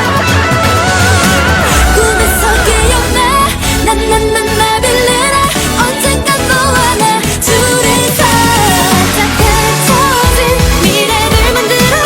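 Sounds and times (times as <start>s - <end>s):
pop song with vocals over beat: 0.0s - 12.0s.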